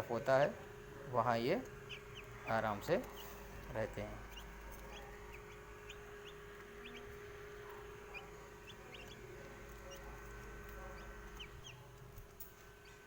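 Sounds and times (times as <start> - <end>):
chicks peeping: 0.0 - 13.0
steady low hum: 0.0 - 13.0.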